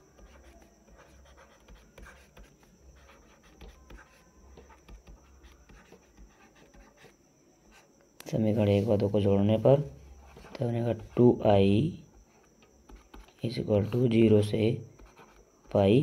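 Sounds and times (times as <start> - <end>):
writing on a touchscreen: 0.0 - 16.0.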